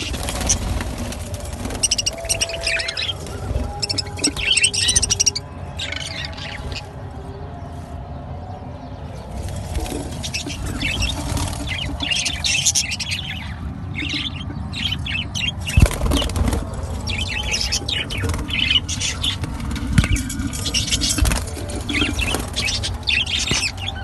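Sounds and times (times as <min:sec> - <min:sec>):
wings fluttering: 0:00.0 - 0:05.4, 0:09.2 - 0:24.0
budgerigars chirping: 0:01.6 - 0:06.9, 0:09.7 - 0:24.0.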